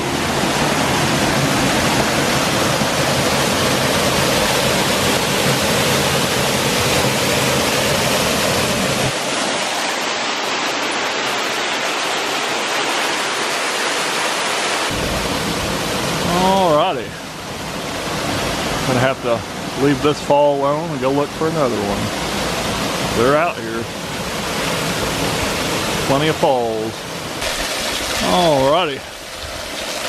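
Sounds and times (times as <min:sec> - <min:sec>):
waterfall pouring: 0:00.0 - 0:17.2, 0:18.0 - 0:30.0.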